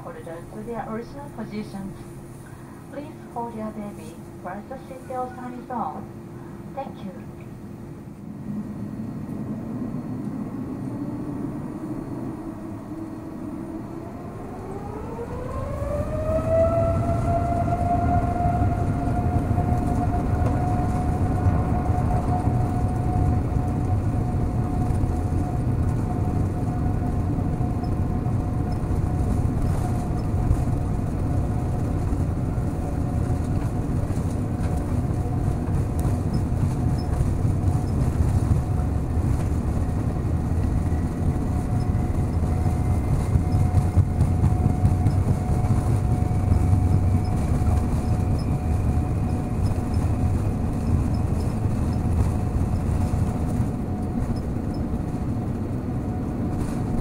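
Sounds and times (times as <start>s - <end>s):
jet engine whine: 0.0s - 57.0s
low rumble: 8.1s - 57.0s.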